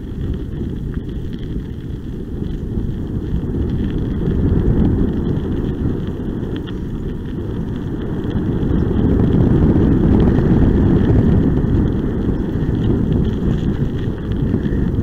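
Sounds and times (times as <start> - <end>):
kickbike rolling on wet road: 0.0 - 15.0
wind buffeting microphone: 0.0 - 15.0.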